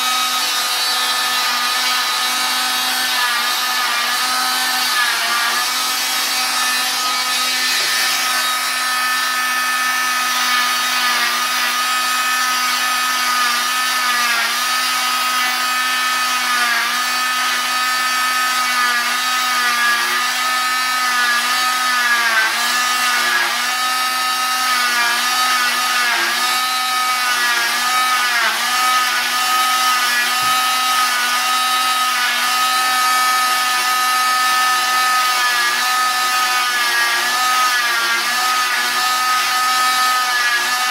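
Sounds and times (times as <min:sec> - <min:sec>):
cast saw whining: 0:00.0 - 0:40.9.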